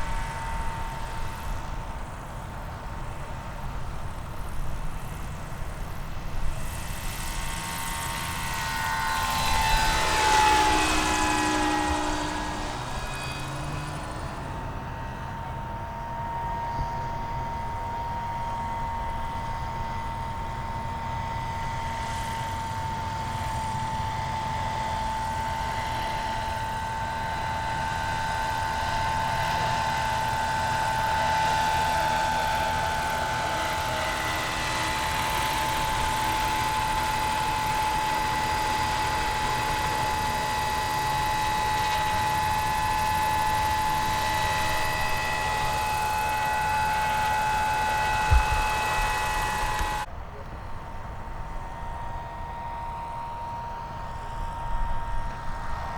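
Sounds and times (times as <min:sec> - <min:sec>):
model aircraft motor whine: 0:00.0 - 0:55.9.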